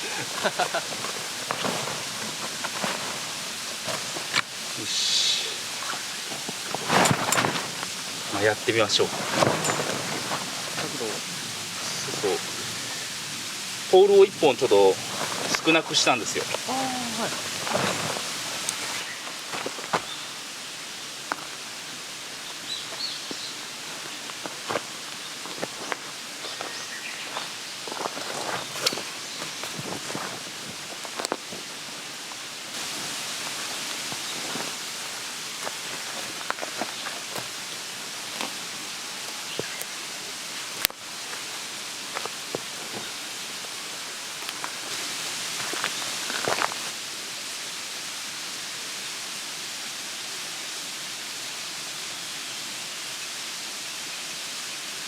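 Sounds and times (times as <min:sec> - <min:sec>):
steady woodland hiss: 0:00.0 - 0:55.0.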